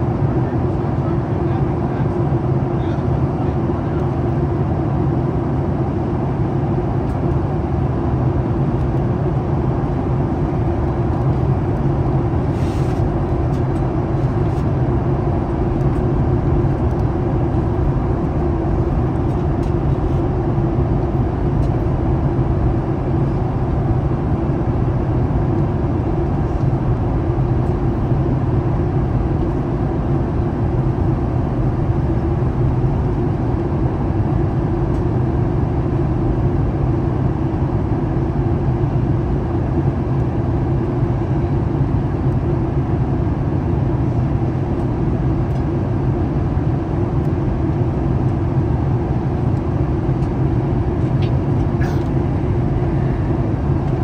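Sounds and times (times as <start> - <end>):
air rushing along fuselage: 0.0 - 54.0
jet engines humming: 0.0 - 54.0.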